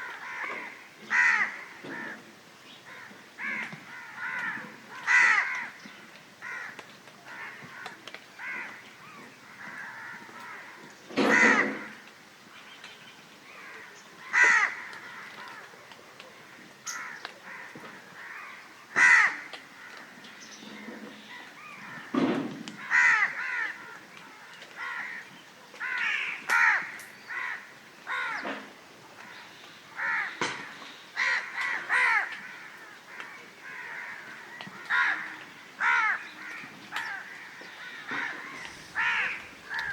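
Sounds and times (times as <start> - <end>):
crows cawing: 0.0 - 12.1, 13.4 - 22.2, 22.8 - 39.9.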